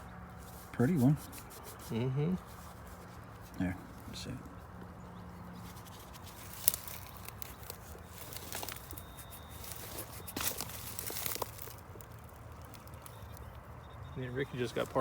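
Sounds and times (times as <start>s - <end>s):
hands rustling dirt and leaves: 0.0s - 15.0s.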